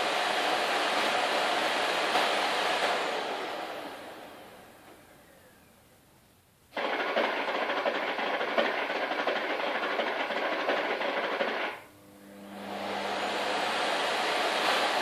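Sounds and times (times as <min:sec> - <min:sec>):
vacuum cleaner running: 0:00.0 - 0:05.7, 0:06.8 - 0:15.0.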